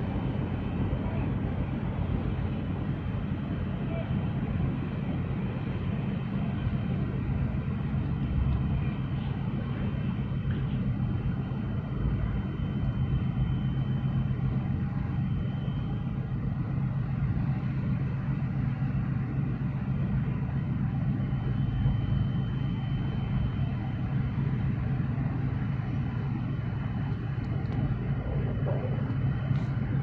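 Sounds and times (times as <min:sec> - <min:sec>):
ship engine rumble: 0:00.0 - 0:30.0.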